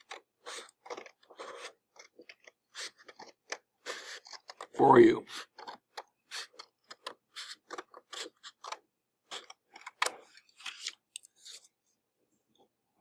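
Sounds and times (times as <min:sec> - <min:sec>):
scissors cutting paper: 0:00.0 - 0:04.7, 0:05.3 - 0:11.6.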